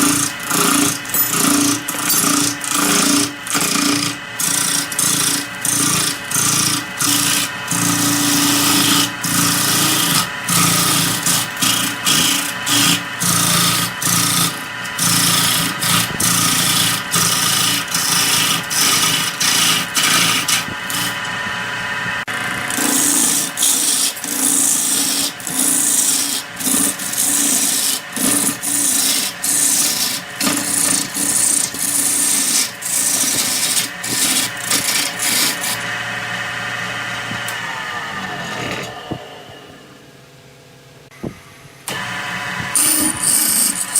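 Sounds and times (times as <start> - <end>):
tool scraping spinning wood: 0.0 - 40.0, 41.9 - 43.9
lathe machine hum: 0.0 - 43.9.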